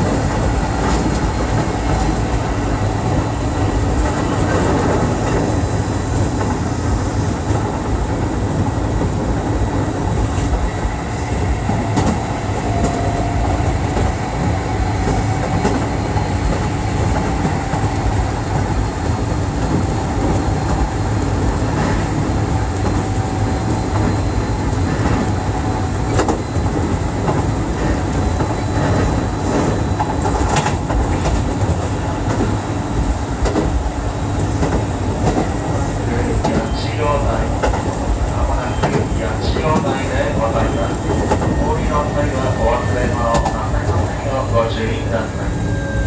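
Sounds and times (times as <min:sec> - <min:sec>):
electric train rumbling: 0:00.0 - 0:46.0.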